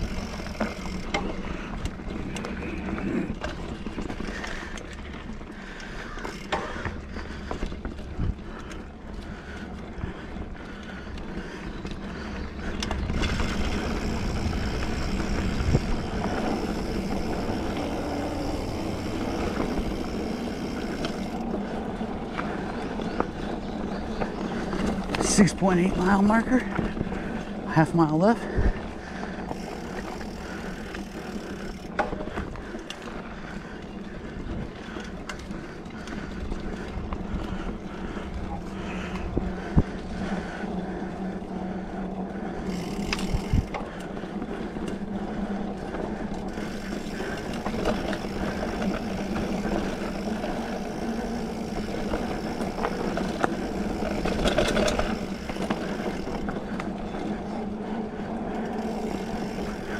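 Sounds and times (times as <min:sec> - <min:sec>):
bike tyres rolling on dirt: 0:00.0 - 0:59.9.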